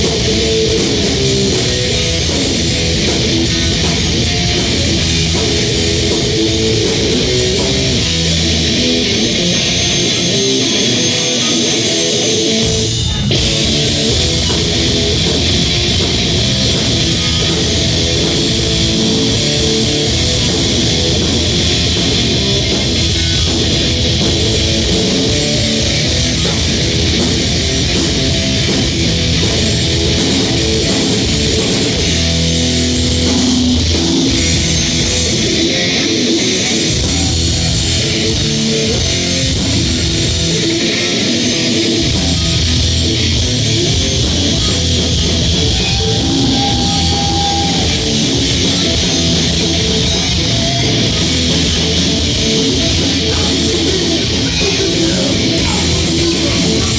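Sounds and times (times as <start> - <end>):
bass guitar: 0.0 - 56.9
distorted electric guitar riffing: 0.0 - 56.9
drum kit: 0.0 - 56.9.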